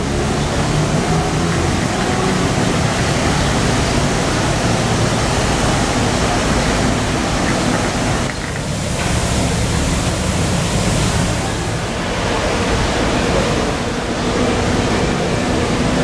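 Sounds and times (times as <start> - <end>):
passing city traffic: 0.0 - 16.0.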